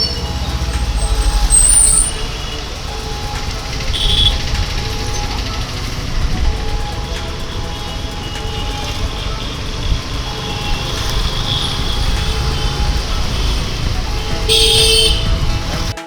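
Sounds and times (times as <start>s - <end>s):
road traffic rumble: 0.0s - 16.0s
vehicle horn: 0.0s - 16.0s.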